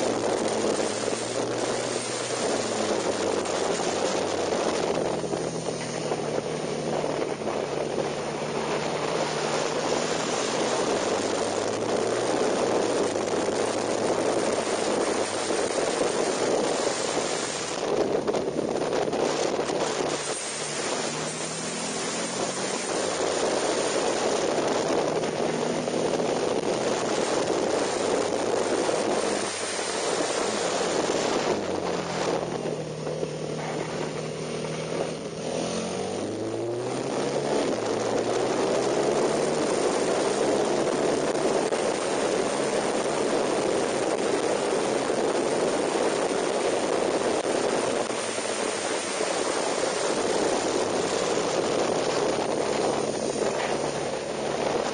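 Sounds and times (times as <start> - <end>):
motorcycle engine: 0.0 - 54.9
wind rush on microphone: 0.0 - 54.9.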